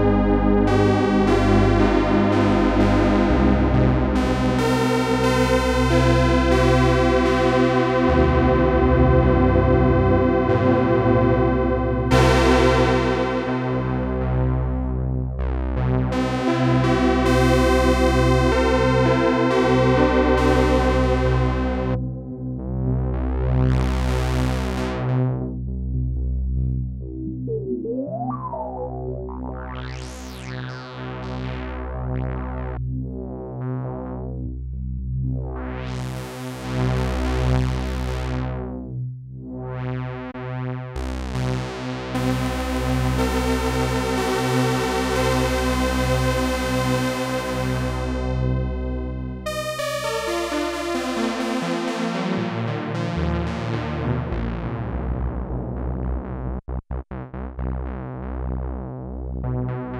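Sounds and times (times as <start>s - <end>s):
synthesizer low sustained chord: 0.0s - 39.9s, 41.0s - 56.2s.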